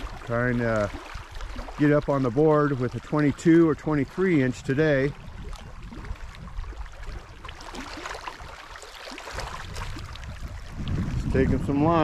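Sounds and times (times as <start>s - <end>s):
small waves lapping on shore: 0.0s - 12.0s
splashes: 0.0s - 12.0s
wind rumbling on microphone: 0.0s - 12.0s.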